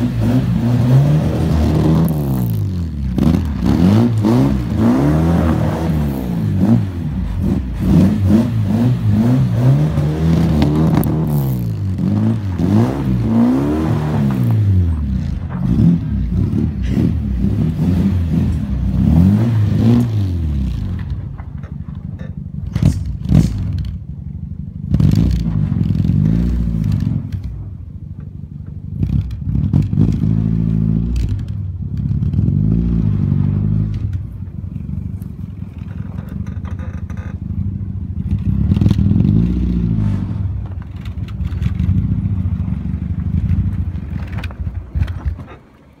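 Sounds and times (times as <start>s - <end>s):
car engine revving: 0.0s - 21.8s, 22.6s - 28.0s, 28.9s - 45.5s.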